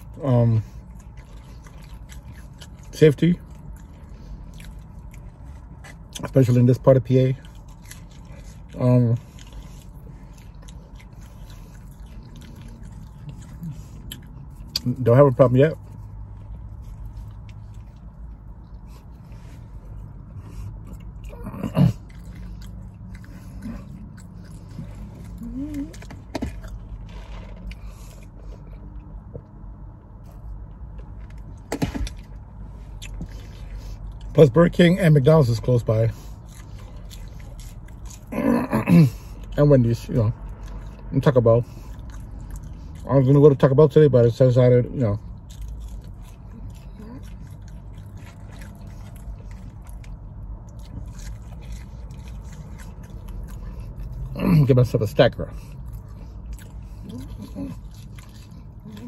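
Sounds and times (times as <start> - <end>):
person chewing: 0.0 - 43.6, 44.9 - 59.0
steady low hum: 0.0 - 59.0.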